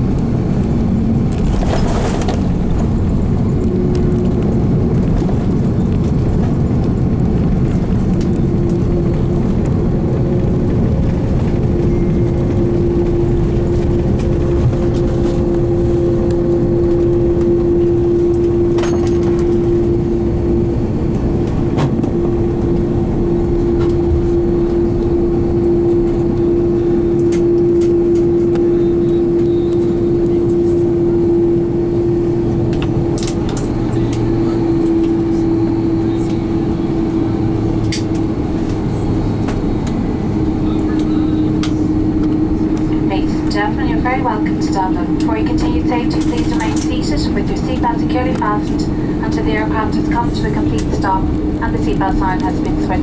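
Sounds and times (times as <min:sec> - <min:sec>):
airplane cabin rumble: 0:00.0 - 0:53.0.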